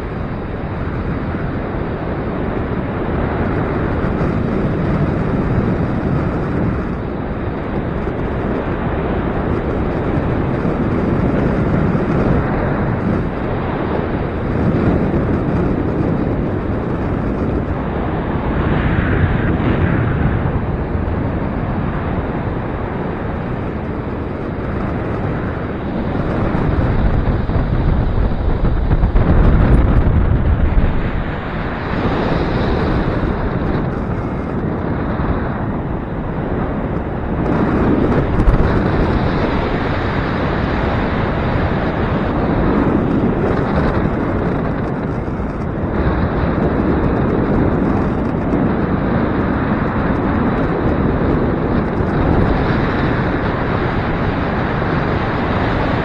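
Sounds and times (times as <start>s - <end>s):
gusty wind buffeting microphone: 0.0s - 56.0s.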